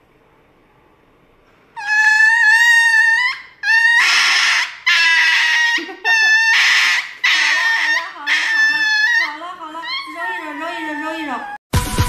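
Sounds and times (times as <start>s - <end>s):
dog screaming: 1.8s - 11.6s.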